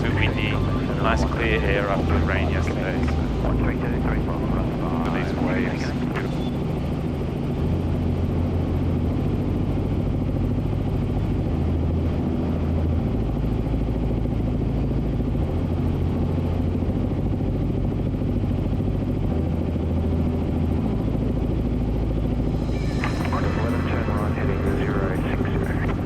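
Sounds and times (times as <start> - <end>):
helicopter cabin drone: 0.0 - 26.0.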